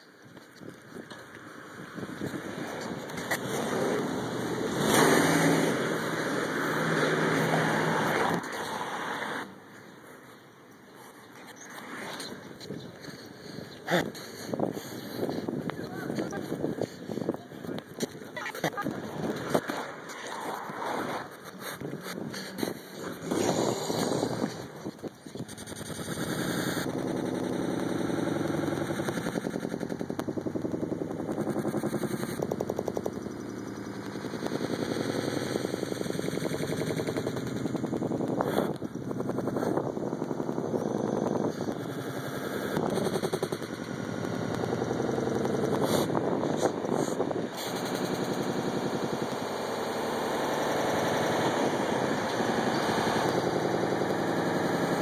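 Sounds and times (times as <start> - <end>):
vehicle engine running: 0.0 - 20.1, 20.7 - 55.0.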